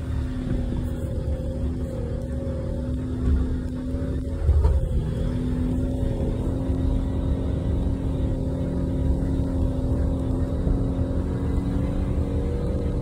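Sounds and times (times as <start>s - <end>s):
engine running on a dirt trail: 0.0s - 13.0s.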